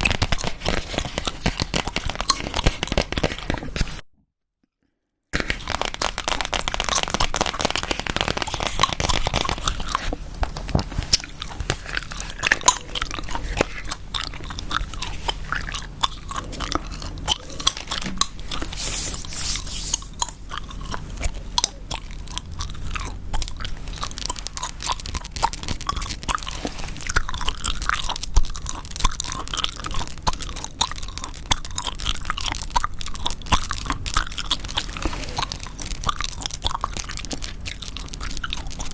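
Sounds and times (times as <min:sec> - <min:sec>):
gum chewing: 0:00.0 - 0:04.0, 0:05.6 - 0:38.9.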